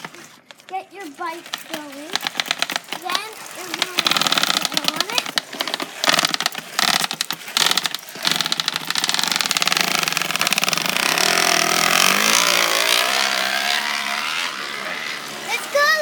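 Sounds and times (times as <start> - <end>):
plastic bottle rattling in bicycle spokes: 0.0 - 16.0.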